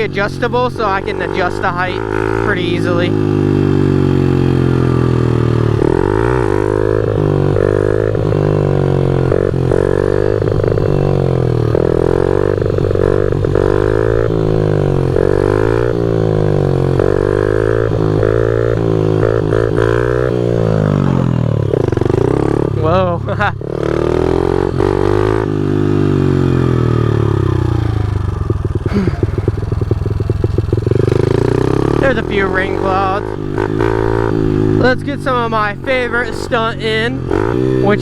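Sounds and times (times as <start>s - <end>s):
pit bike engine revving: 0.0s - 38.0s.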